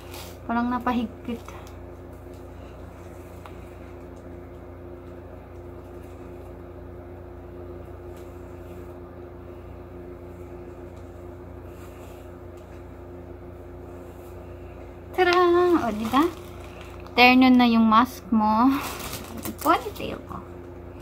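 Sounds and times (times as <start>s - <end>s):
steady low droning hum: 0.0s - 21.0s.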